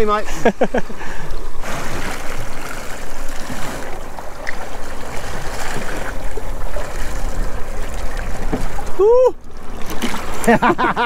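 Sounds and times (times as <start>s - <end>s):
water sloshing against hull: 0.0s - 11.0s.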